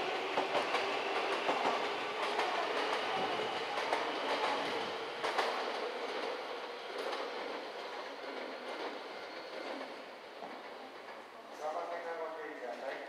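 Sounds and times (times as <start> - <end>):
train wheels clacking over rail joints: 0.0 - 11.2
train rumble: 0.0 - 13.0.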